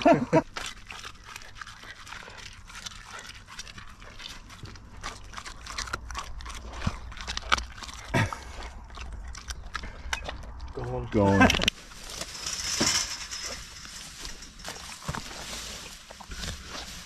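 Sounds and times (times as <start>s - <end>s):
animal crunching and pecking: 0.0s - 17.0s.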